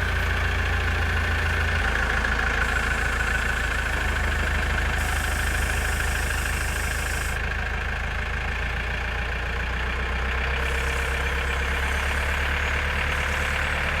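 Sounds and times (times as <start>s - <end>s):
diesel engine running steadily: 0.0s - 14.0s.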